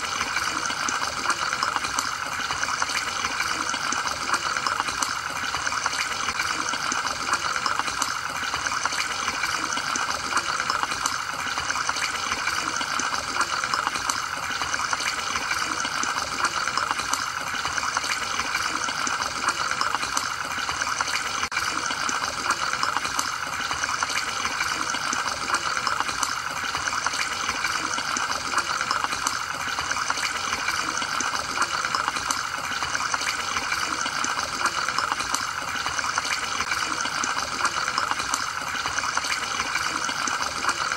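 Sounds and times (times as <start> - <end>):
aquarium water bubbling: 0.0 - 40.9
small water splashes: 0.0 - 40.9.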